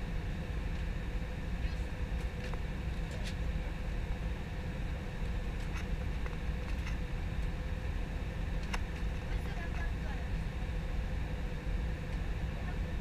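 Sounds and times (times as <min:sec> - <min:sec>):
airplane cabin rumble: 0:00.0 - 0:13.0
thin steady hum: 0:00.0 - 0:13.0.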